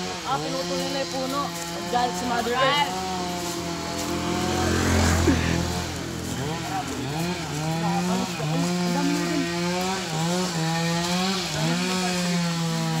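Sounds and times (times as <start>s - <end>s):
chainsaw running: 0.0s - 13.0s.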